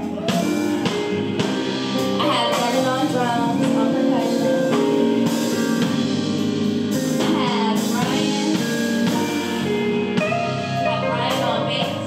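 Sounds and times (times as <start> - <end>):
bent guitar notes: 0.0 - 12.0
live band playing: 0.0 - 12.0.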